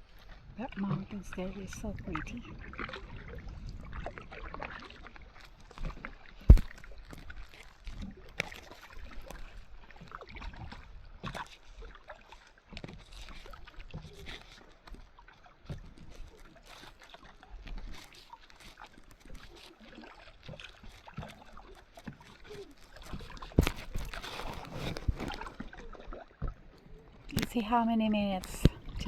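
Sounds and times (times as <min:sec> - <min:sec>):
paddles splashing in water: 0:00.0 - 0:29.0.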